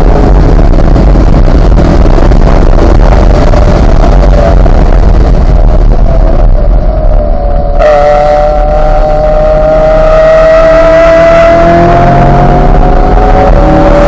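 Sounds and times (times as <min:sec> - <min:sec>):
sports car engine accelerating: 0:00.0 - 0:14.0.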